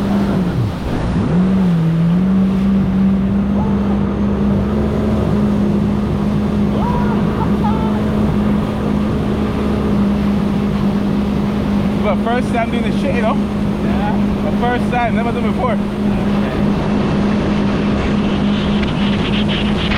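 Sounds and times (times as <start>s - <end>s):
jet ski engine running: 0.0s - 19.9s.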